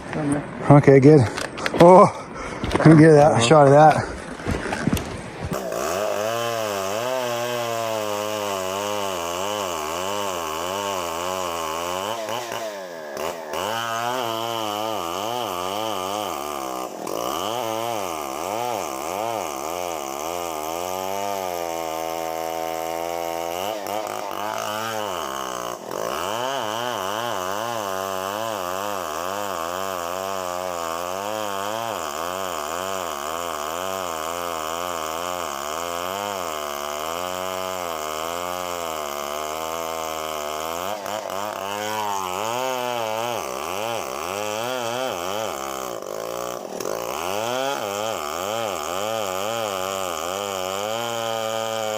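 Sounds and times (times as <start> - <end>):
chainsaw cutting: 0.0 - 51.9.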